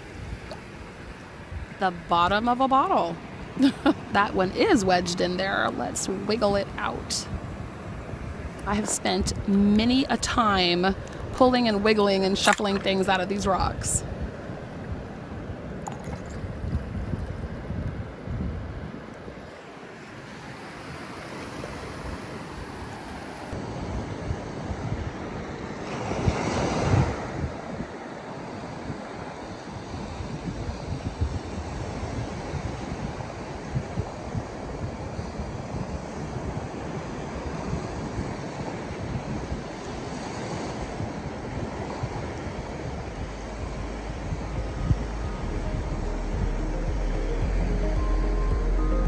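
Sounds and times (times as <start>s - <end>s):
ocean surf washing ashore: 0.0s - 49.0s
wind buffeting microphone: 0.0s - 49.0s.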